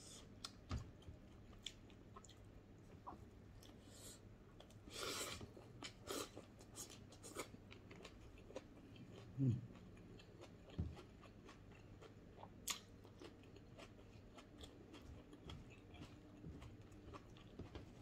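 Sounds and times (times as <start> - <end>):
person chewing food: 0.4 - 3.9, 4.5 - 18.0.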